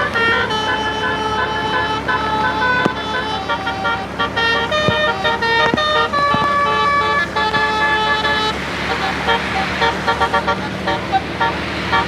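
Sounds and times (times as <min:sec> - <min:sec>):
musical air horn melody: 0:00.0 - 0:12.0.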